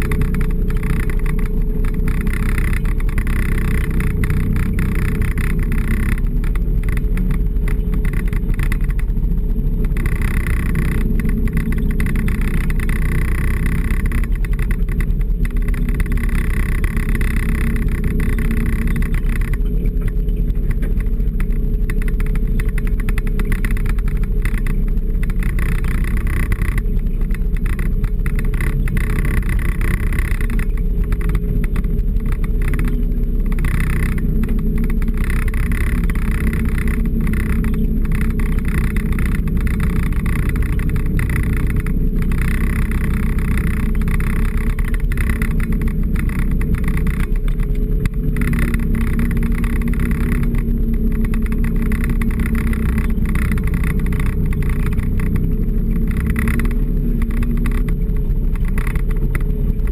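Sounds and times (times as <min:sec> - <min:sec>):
off-road vehicle engine droning: 0:00.0 - 0:59.9.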